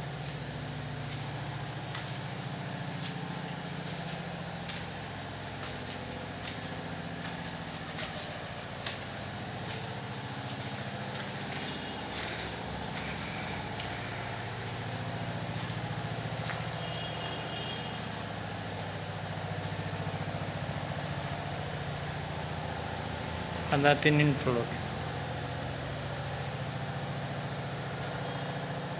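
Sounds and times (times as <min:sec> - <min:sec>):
motor humming: 0:00.0 - 0:23.6.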